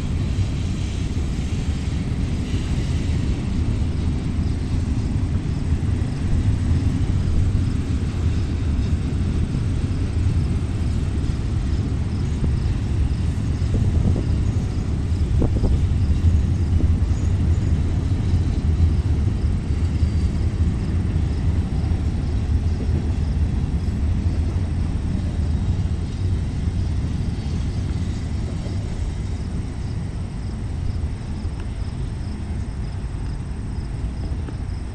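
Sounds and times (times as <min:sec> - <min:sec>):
freight train rumbling past: 0:00.0 - 0:34.9.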